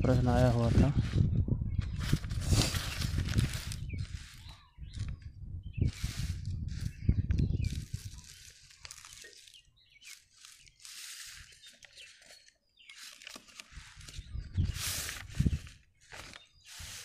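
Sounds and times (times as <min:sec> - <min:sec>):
paper pages rustling: 0:01.8 - 0:17.0.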